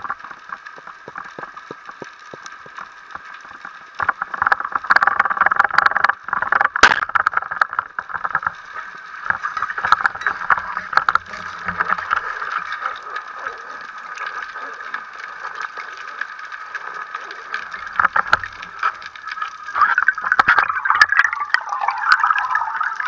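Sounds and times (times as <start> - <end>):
diver movement clicks and knocks: 0.0 - 23.0
underwater crackling and hiss: 0.0 - 23.0.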